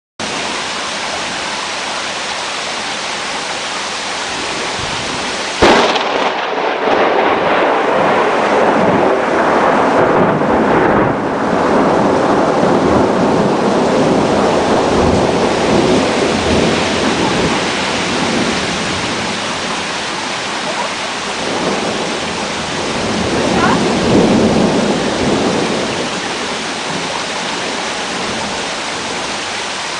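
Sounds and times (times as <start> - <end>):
steady rain: 0.2 - 29.9
thunder rumbling: 4.2 - 29.9
sharp thunderclap: 4.4 - 29.4.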